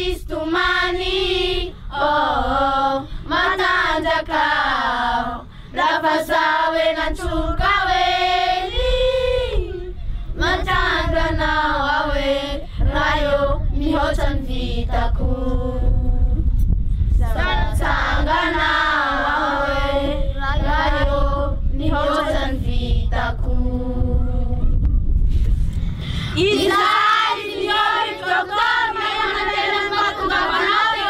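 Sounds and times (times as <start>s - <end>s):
children singing unaccompanied: 0.0s - 15.0s, 17.3s - 24.0s, 26.4s - 31.0s.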